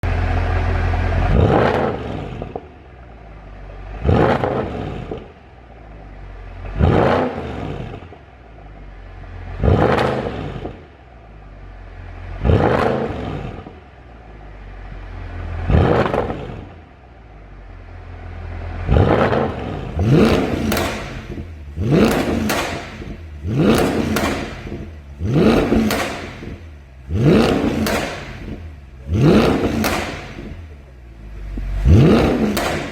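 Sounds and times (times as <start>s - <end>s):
exhaust popping and crackling: 0.0s - 17.5s, 18.3s - 32.9s
car engine revving: 0.0s - 32.9s.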